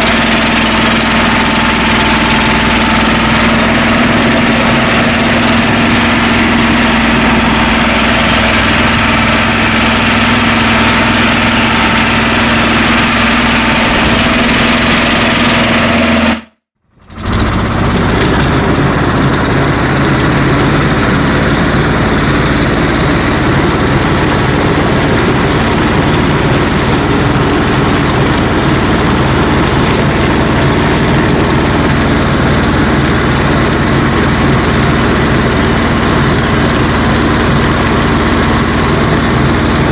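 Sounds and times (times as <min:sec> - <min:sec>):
rotovator working soil: 0:00.0 - 0:39.9
tractor engine running: 0:00.0 - 0:39.9.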